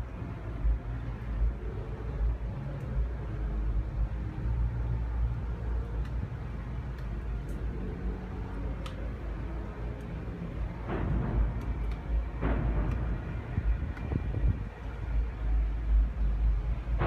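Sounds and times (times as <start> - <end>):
low rumbling in the sky: 0.0 - 17.0.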